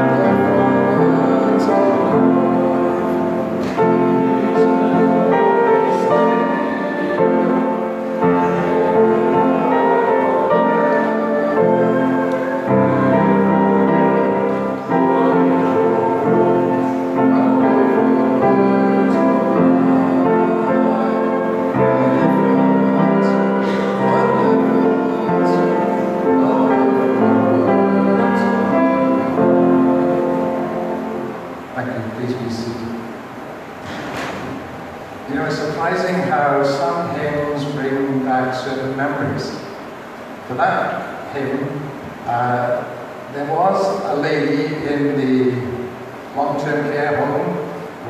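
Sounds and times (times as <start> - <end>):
slow keyboard chords: 0.0 - 48.0.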